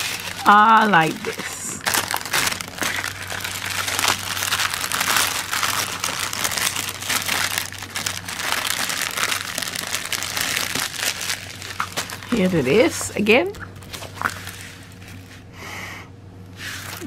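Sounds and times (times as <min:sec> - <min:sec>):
plastic packaging crinkling: 0:00.0 - 0:15.5
steady low hum: 0:00.0 - 0:17.0.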